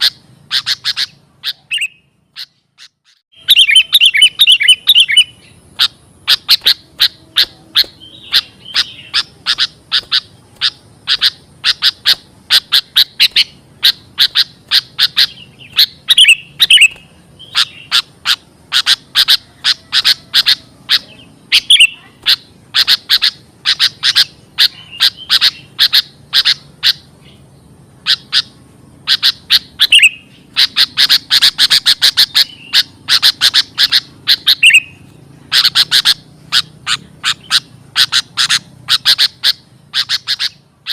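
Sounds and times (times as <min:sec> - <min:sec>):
bird chattering calls: 0:00.0 - 0:40.9
bird downward-slurred whistle: 0:03.3 - 0:27.0, 0:28.1 - 0:40.6.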